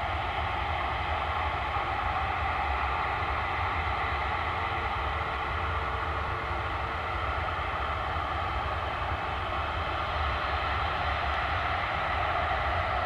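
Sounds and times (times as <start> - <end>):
jet engines running at taxi power: 0.0 - 13.0.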